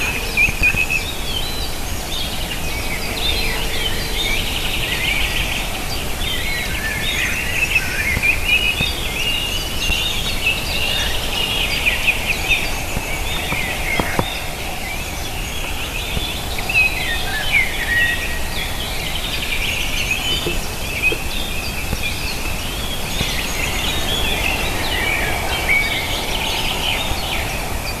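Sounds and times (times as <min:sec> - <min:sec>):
background hiss: 0:00.0 - 0:28.0
small birds chirping: 0:00.0 - 0:28.0.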